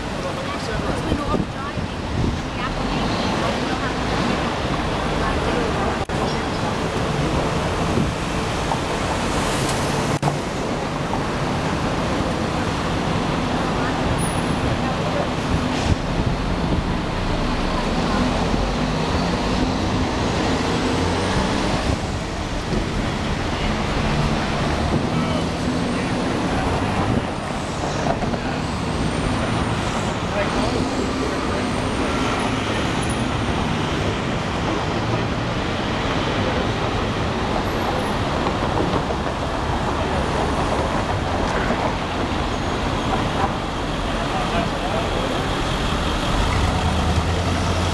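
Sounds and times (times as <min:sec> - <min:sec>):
idling engines humming: 0:00.0 - 0:47.9
roar of city traffic: 0:00.0 - 0:47.9.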